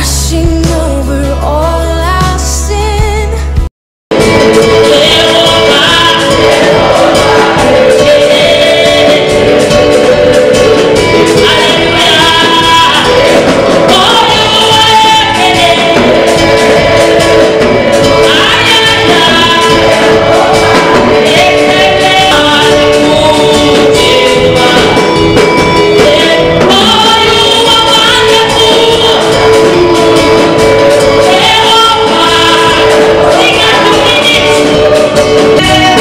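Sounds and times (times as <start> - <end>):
woman singing into microphone: 0.0 - 3.6, 4.2 - 36.0
instrumental accompaniment: 0.0 - 36.0
backing singers harmonising: 4.1 - 36.0.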